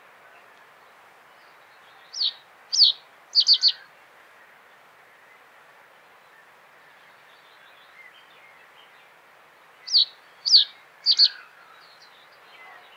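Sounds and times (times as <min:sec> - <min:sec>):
faint background hiss: 0:00.0 - 0:12.9.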